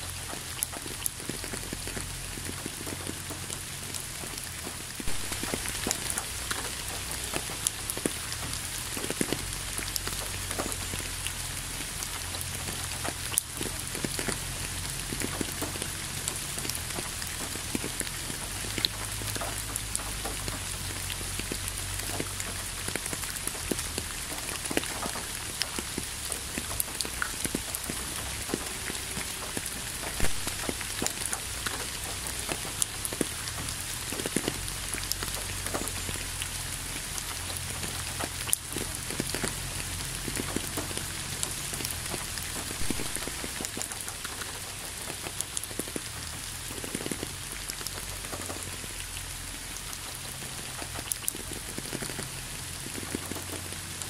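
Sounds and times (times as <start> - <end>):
raindrops striking close by: 0.0 - 54.0.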